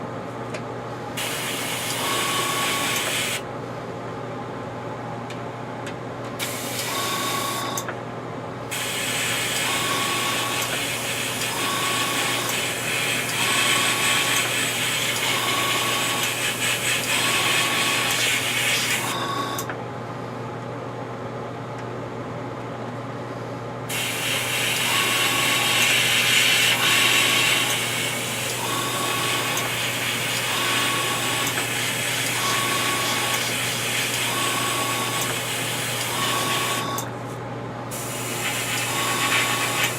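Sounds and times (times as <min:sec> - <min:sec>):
air compressor hum: 0:00.0 - 0:20.5, 0:22.9 - 0:39.9.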